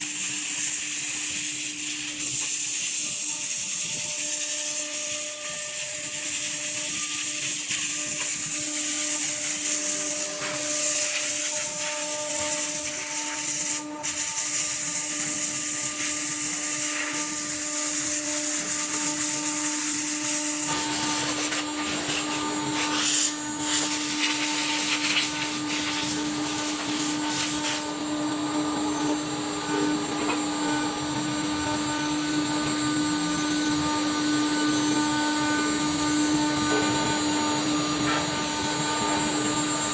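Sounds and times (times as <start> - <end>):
hiss of cutting: 0.0 - 39.9
router spindle whine: 0.0 - 39.9.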